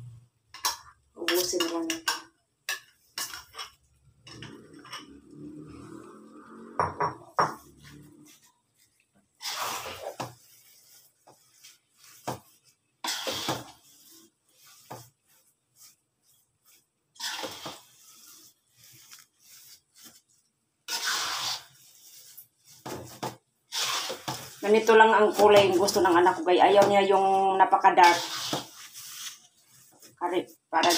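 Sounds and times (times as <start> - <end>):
spoon scraping rice in a wok: 0.5 - 6.0, 7.2 - 30.9.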